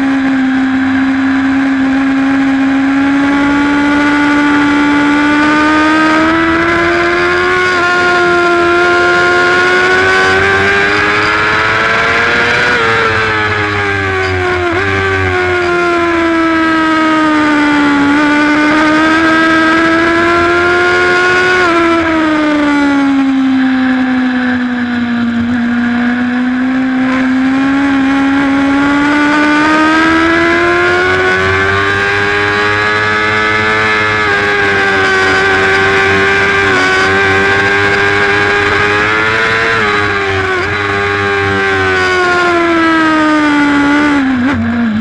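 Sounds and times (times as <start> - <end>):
racing motorcycle engine high revs: 0.0 - 45.0.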